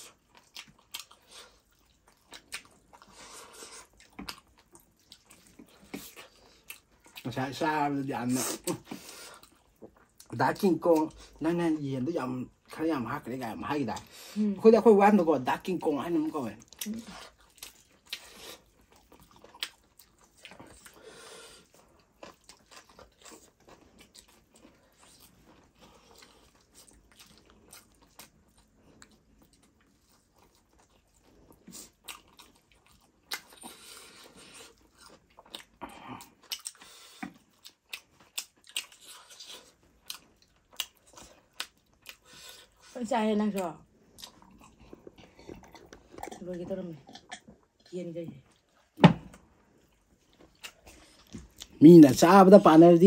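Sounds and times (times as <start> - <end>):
people chewing and crunching: 0.0 - 53.0.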